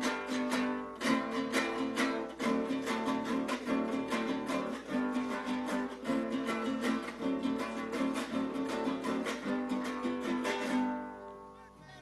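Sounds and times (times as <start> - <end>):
small guitar strumming chords: 0.0 - 11.8.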